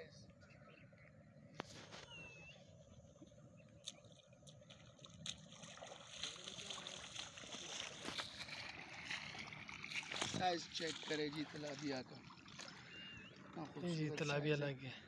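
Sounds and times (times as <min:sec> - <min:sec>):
wading through shallow water: 0:00.3 - 0:15.0.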